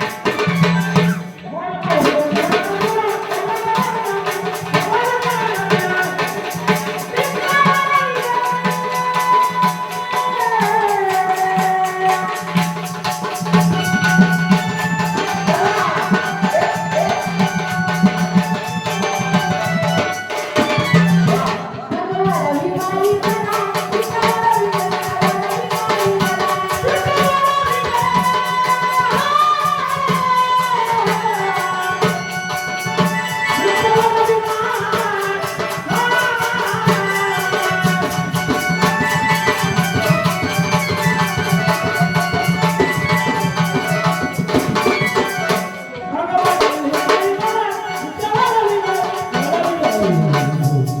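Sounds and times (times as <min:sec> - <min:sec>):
devotional folk music: 0:00.0 - 0:51.0
rattling percussion beat: 0:00.0 - 0:51.0
tabla: 0:00.0 - 0:51.0.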